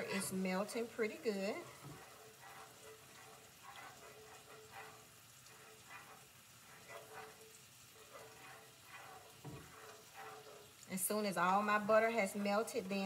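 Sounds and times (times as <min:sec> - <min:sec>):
low sizzle: 0:00.0 - 0:13.0
utensil scraping a skillet: 0:00.0 - 0:13.0.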